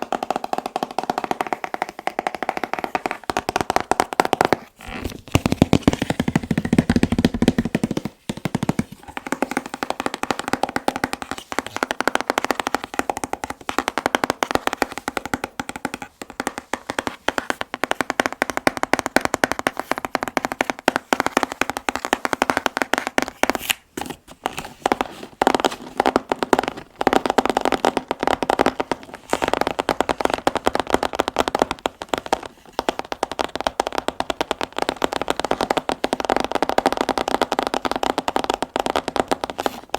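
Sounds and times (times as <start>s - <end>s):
fast tapping on box: 0.0s - 39.9s.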